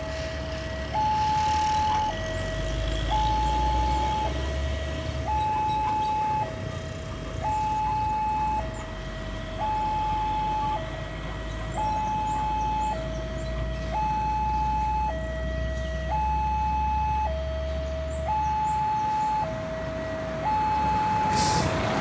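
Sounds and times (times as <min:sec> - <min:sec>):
level crossing two-tone alarm: 0:00.7 - 0:04.4, 0:05.2 - 0:06.6, 0:07.4 - 0:11.0, 0:11.7 - 0:21.6.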